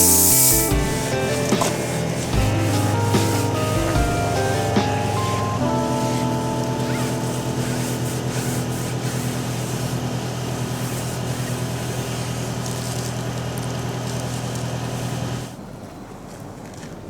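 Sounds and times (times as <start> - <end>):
mechanical hum with rushing hiss: 0.0 - 15.8.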